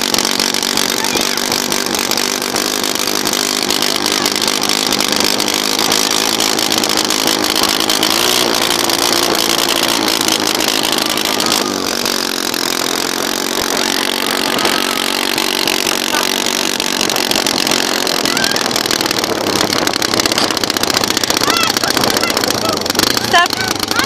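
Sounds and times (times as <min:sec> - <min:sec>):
small vehicle engine: 0:00.0 - 0:24.0.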